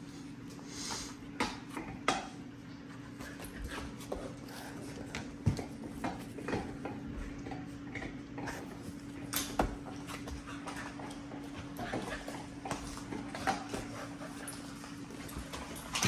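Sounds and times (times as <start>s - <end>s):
dogs scuffling on a mat: 2.7s - 16.0s.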